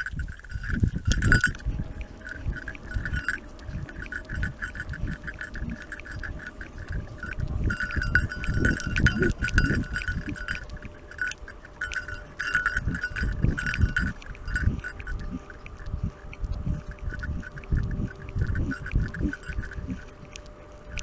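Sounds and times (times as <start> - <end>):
high ringing jingle: 0.0 - 16.1, 18.5 - 20.1.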